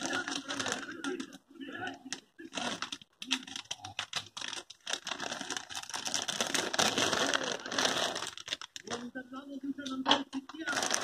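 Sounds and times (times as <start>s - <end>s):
plastic bag crinkling: 0.0s - 9.2s, 10.4s - 11.0s.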